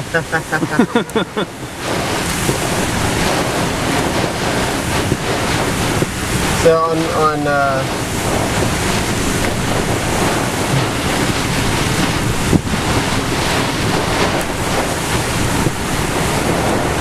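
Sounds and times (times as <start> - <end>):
extreme wind on microphone: 0.0 - 17.0
rain: 0.0 - 17.0.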